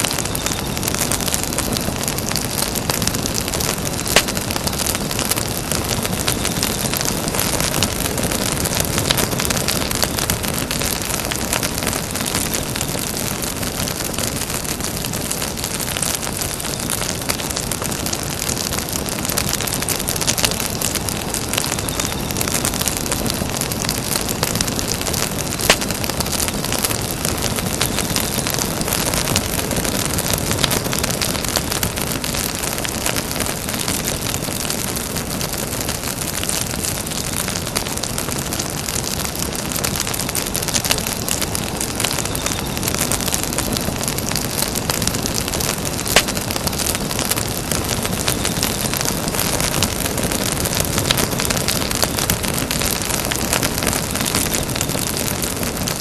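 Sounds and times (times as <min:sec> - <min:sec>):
campfire crackling: 0:00.0 - 0:56.0
loud fire pops: 0:00.0 - 0:56.0.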